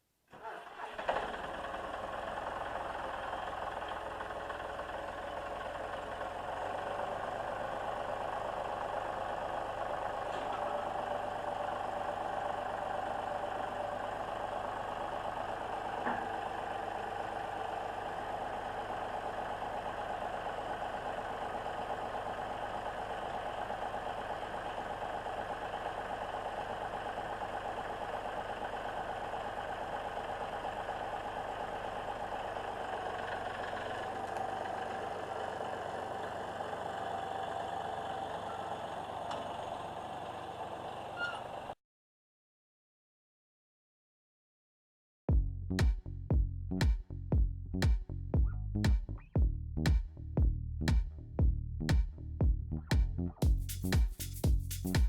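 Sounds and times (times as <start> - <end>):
tractor diesel engine running: 0.4 - 41.8, 45.3 - 55.0.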